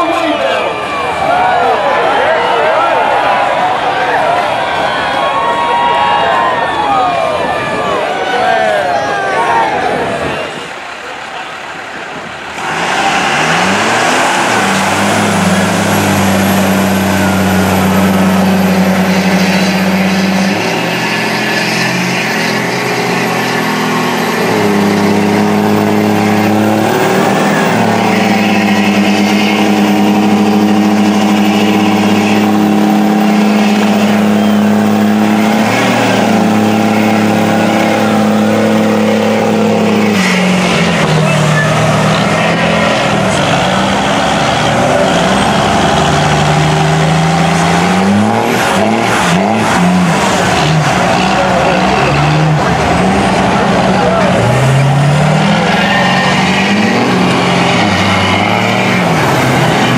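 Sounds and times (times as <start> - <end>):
truck engines revving high: 0.0 - 59.9.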